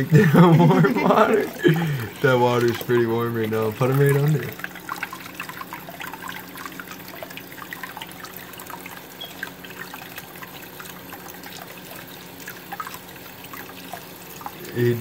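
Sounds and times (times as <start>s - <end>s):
water drips: 0.0s - 15.0s
water running from a tap: 0.0s - 15.0s.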